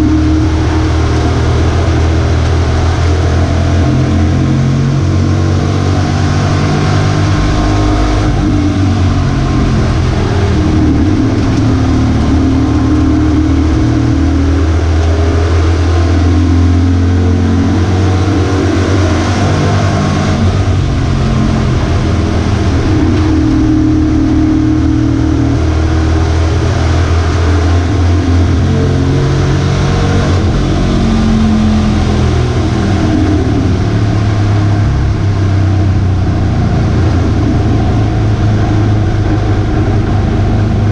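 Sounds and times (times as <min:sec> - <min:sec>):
race truck engine revving: 0:00.0 - 0:40.9.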